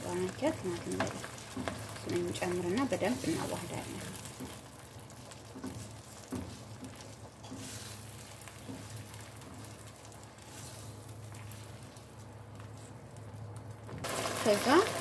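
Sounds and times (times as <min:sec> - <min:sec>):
sauce sizzling and bubbling in a pan: 0:00.0 - 0:15.0
spatula stirring and scraping: 0:00.1 - 0:13.3.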